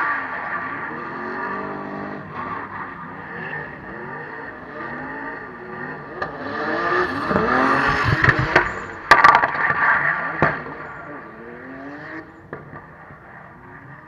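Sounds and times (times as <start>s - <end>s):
car engine revving hard: 0.7s - 12.4s.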